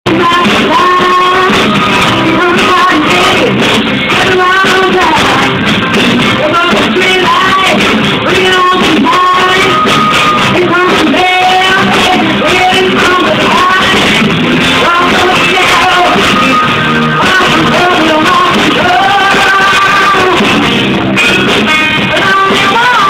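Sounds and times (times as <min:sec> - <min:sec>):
person singing: 0:00.1 - 0:23.0
rock band playing live: 0:00.1 - 0:23.0.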